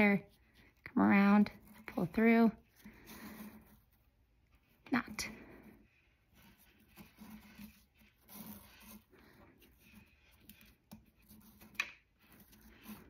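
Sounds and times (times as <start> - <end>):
cord rustling between fingers: 0.0 - 13.0.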